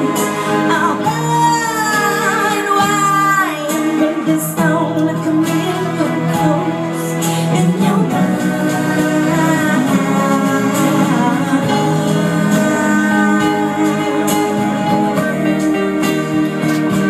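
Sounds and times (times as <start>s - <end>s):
guitar: 0.0s - 17.0s
live band playing: 0.0s - 17.0s
women singing: 0.0s - 17.0s.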